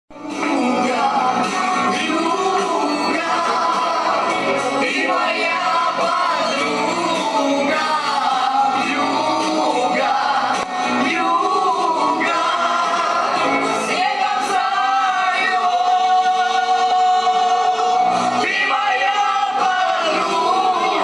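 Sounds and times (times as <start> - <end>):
backing music: 0.1 - 21.0
man singing: 0.1 - 21.0.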